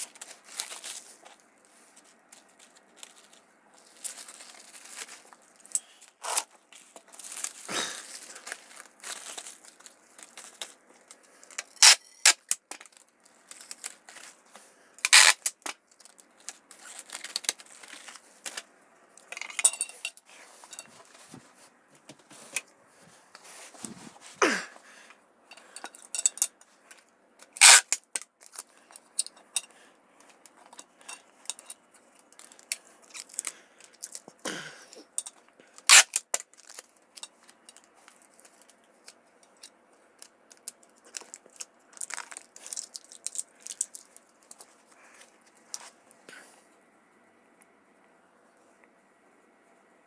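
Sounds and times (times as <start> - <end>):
clinks and knocks of parts: 0.0 - 14.4, 15.0 - 21.3, 25.5 - 45.8.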